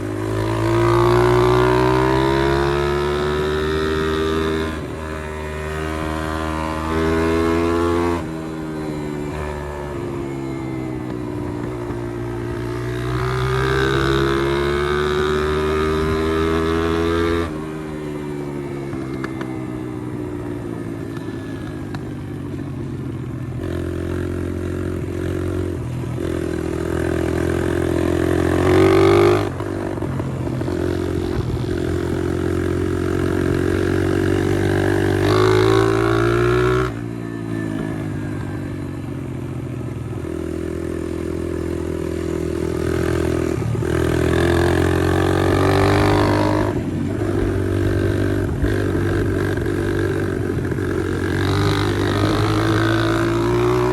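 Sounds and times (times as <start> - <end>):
motorbike engine revving: 0.0 - 22.6, 23.2 - 53.9.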